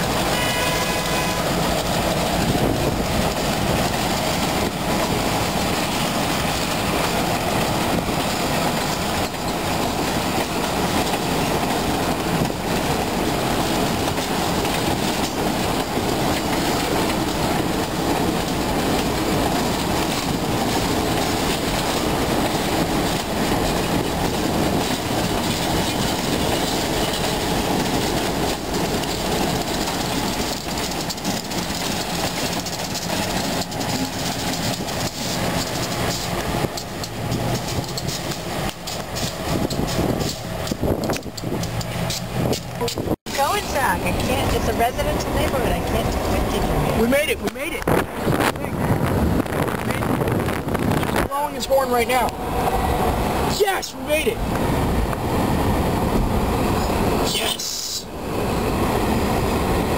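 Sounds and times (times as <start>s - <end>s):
train wheels clacking on rail joints: 0.0s - 57.5s
diesel locomotive engine: 0.0s - 59.9s.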